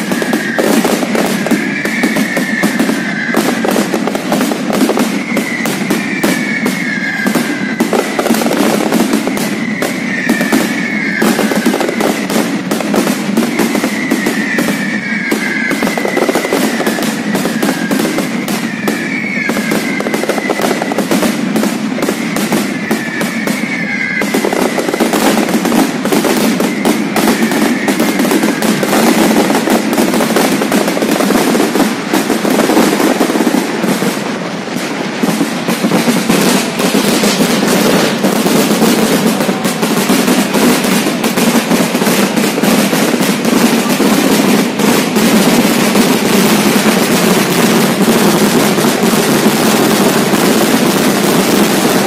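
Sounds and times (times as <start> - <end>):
fireworks bangs and crackles: 0.0 - 52.0
whistling firework shells: 0.0 - 52.0.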